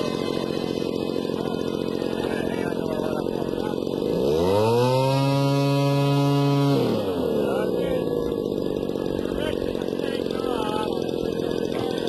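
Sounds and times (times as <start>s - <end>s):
model airplane engine buzzing: 0.0s - 12.0s.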